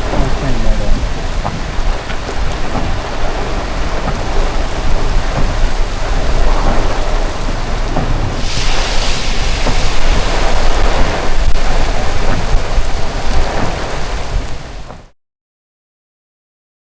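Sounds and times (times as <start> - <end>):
constant low rumble: 0.0 - 15.1
heavy rain pouring: 0.0 - 15.2.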